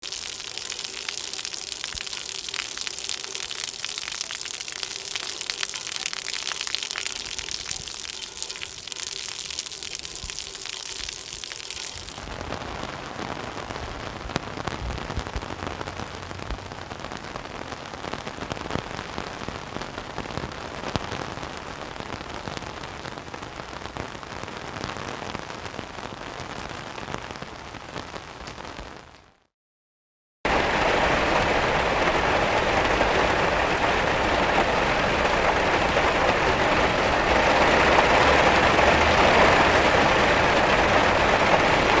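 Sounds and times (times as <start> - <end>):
rain falling: 0.0 - 27.5, 30.5 - 42.0.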